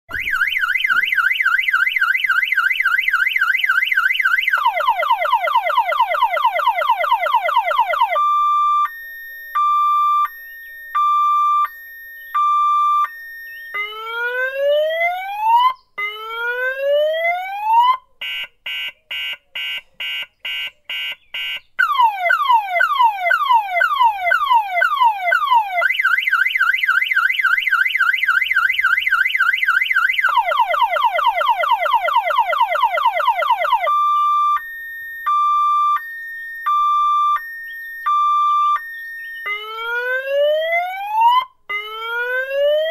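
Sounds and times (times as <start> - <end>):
car alarm siren: 0.1 - 42.9.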